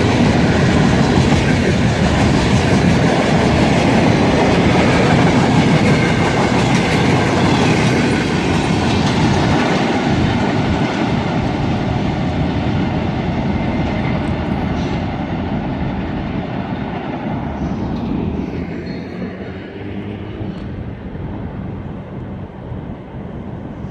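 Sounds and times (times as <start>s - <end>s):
train wheels clacking: 0.0s - 19.7s.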